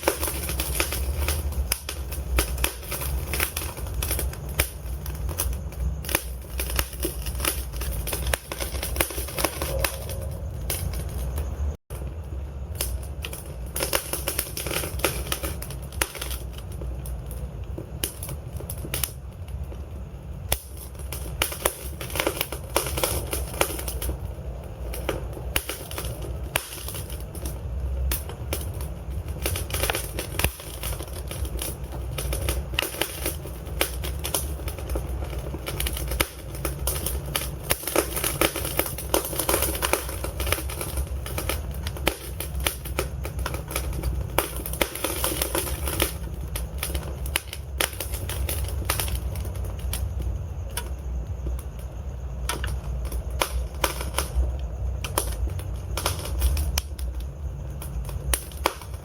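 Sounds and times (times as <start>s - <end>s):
logs crackling and popping: 0.0s - 59.0s
low rumble of flame: 0.0s - 59.0s.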